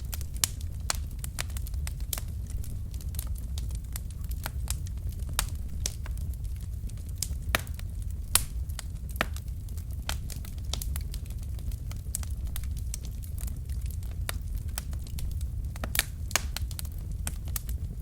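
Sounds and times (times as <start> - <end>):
burning logs popping: 0.0 - 18.0
low fire rumble: 0.0 - 18.0.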